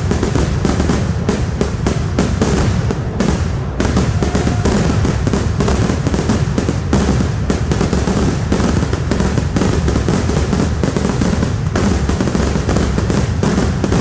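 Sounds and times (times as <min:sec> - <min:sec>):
firecracker blasts: 0:00.0 - 0:14.0.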